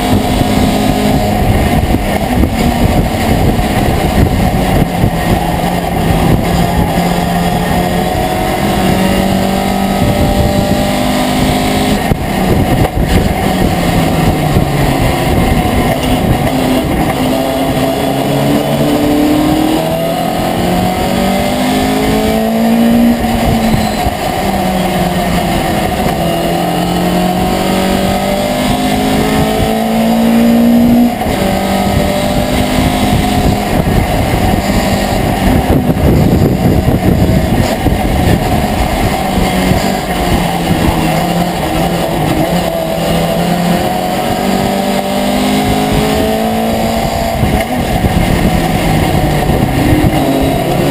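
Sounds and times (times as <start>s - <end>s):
road and wind noise: 0.0s - 50.9s
truck engine revving: 0.0s - 50.9s.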